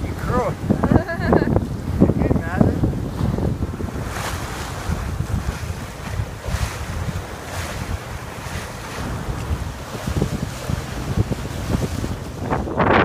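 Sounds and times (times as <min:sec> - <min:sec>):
water splashing along hull: 0:00.0 - 0:13.0
wind buffeting microphone: 0:00.0 - 0:13.0.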